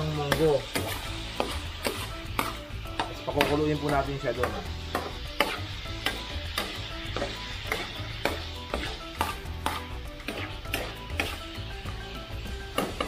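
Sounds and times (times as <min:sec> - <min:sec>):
background music: 0:00.0 - 0:13.0
oil sizzling: 0:00.0 - 0:13.0
spatula scraping a pan: 0:00.0 - 0:13.0.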